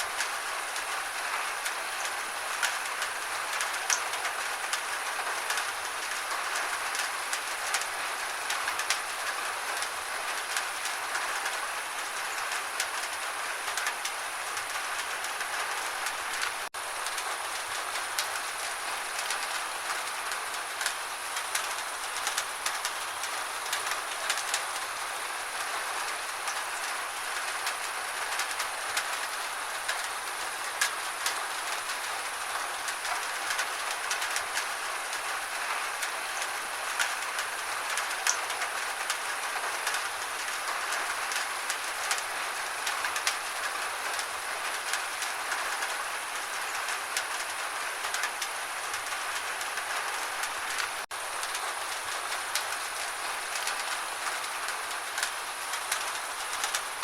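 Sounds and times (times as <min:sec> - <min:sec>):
gentle rain hiss: 0:00.0 - 0:57.0
raindrops ticking on hard surface: 0:00.1 - 0:57.0.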